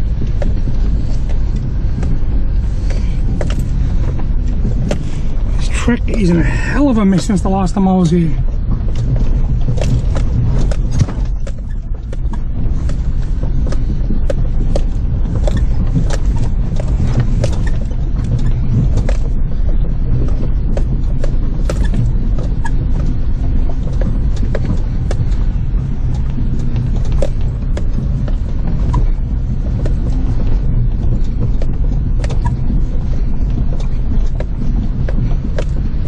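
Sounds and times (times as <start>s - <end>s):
vehicle engine running in low gear: 0.0s - 36.0s.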